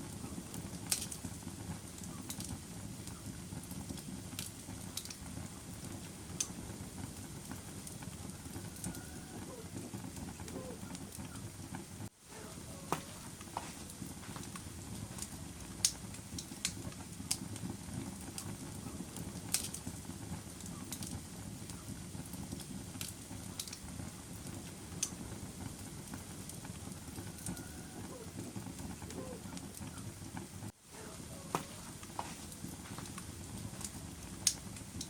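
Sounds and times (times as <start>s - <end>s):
fire flame rushing: 0.0s - 35.0s
wood fire crackling and popping: 0.0s - 35.0s.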